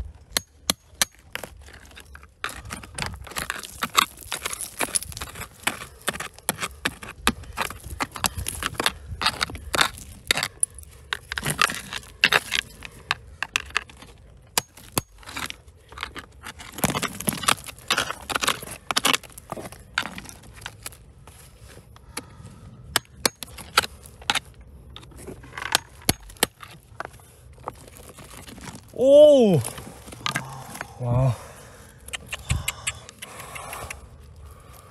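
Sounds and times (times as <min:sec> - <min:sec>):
stones and gravel scraping: 0:00.0 - 0:34.9.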